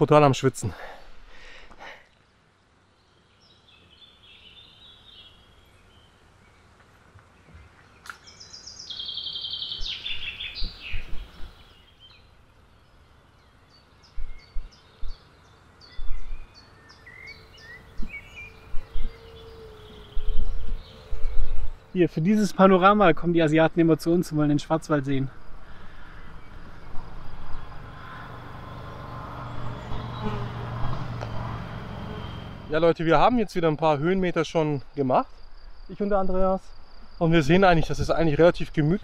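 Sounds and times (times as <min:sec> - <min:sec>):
small birds singing: 0:00.0 - 0:39.0.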